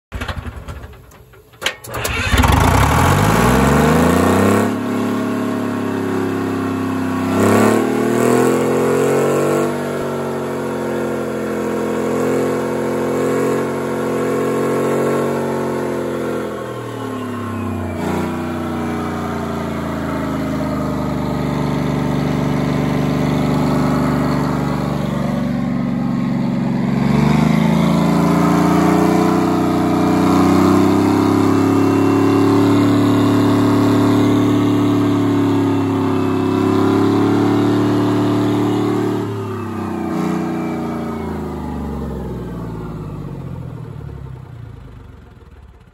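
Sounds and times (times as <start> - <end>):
diesel engine running: 0.1 - 45.9.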